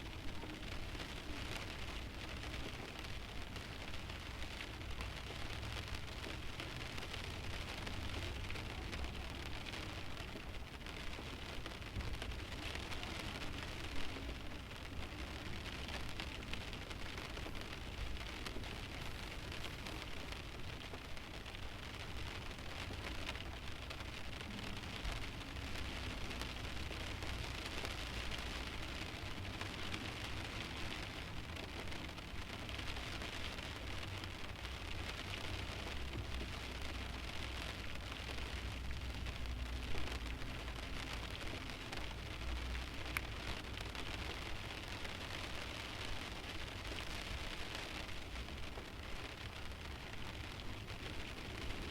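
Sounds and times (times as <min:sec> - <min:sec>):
rain pattering on windshield: 0:00.0 - 0:51.9.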